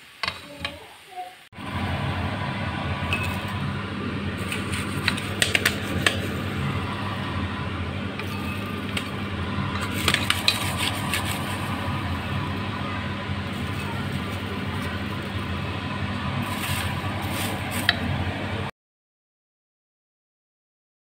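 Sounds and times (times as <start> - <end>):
steady low hum: 1.6 - 18.7.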